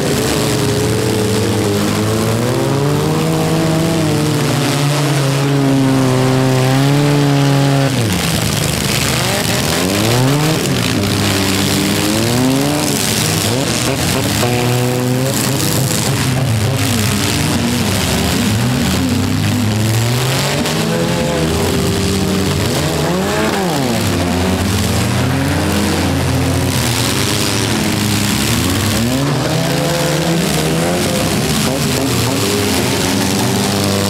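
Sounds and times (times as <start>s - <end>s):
car engines revving hard: 0.0s - 34.0s.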